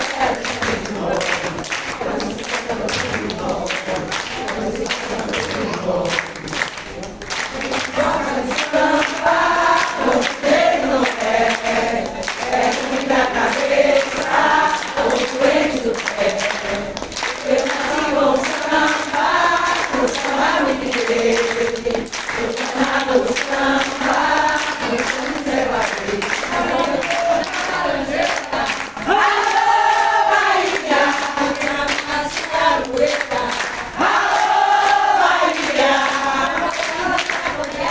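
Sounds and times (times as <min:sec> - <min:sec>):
group singing in chorus: 0:00.0 - 0:37.9.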